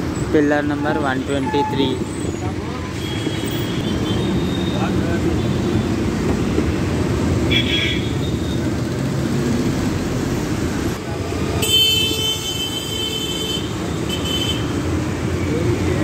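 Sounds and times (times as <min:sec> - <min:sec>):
bus engine and road rumble: 0:00.0 - 0:07.6, 0:08.2 - 0:16.0.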